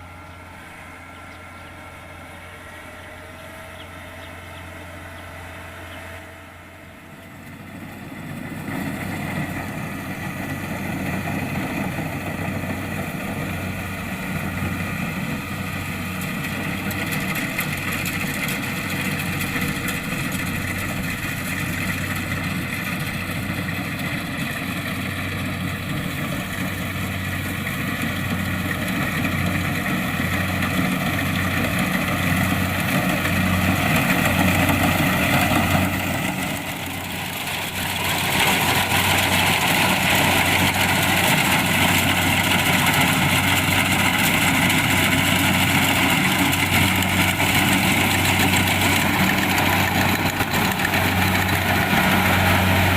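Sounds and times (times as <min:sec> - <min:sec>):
diesel engine running: 0:00.0 - 0:52.9
threshing machinery: 0:07.6 - 0:52.9.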